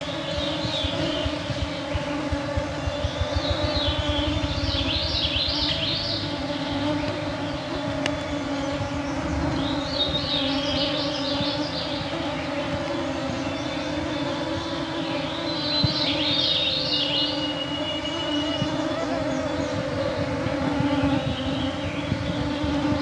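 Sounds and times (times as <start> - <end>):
mosquitoes humming: 0.0 - 23.0.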